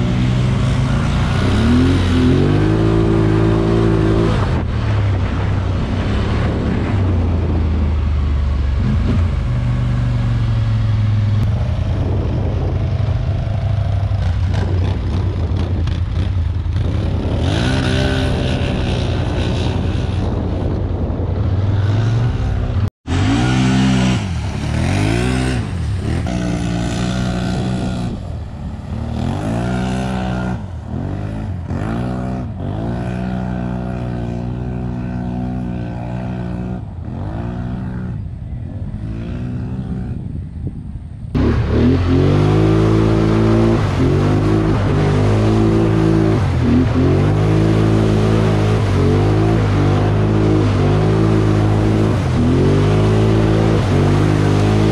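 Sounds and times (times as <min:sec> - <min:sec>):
atv engine revving: 0:00.0 - 0:07.4, 0:08.6 - 0:20.7, 0:21.6 - 0:40.4, 0:41.3 - 0:54.9.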